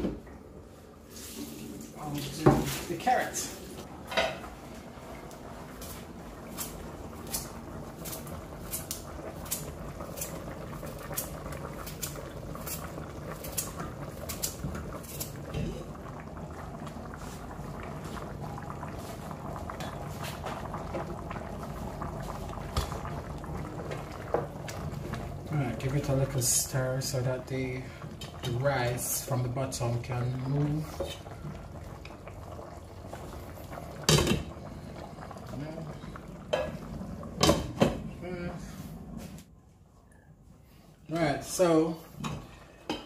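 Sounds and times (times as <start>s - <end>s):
pots bubbling on a stove: 0.0s - 43.0s.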